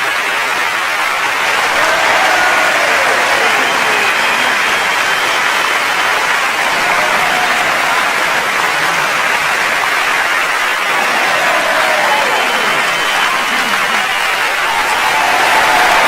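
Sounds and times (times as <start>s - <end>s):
crowd applauding: 0.0s - 16.0s
faint cheering voices: 0.0s - 16.0s.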